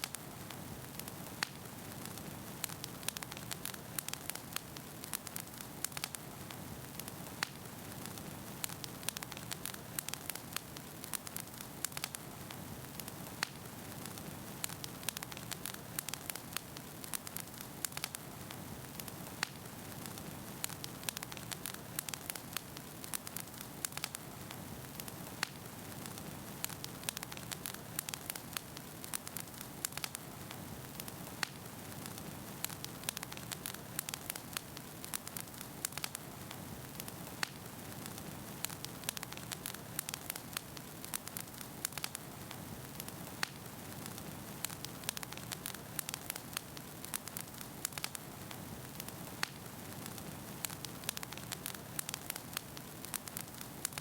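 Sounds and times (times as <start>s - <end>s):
burning logs crackling and popping: 0.0s - 54.0s.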